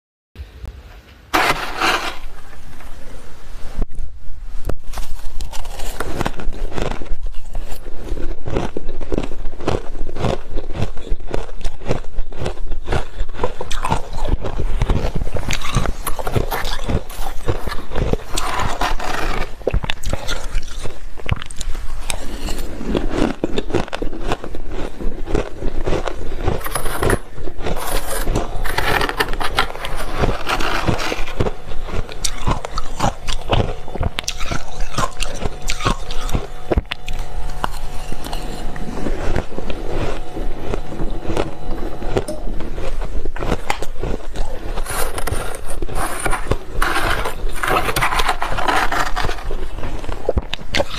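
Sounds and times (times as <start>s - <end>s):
chewing crunchy frost: 3.8s - 50.9s.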